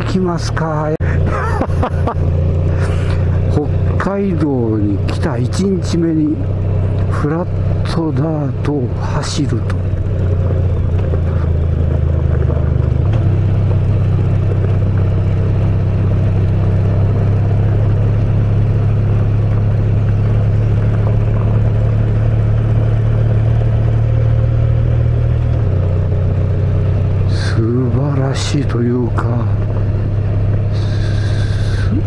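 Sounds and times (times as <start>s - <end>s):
tyres on gravel: 0.0s - 24.3s, 25.1s - 32.0s
motorcycle engine running at low revs: 0.0s - 32.0s.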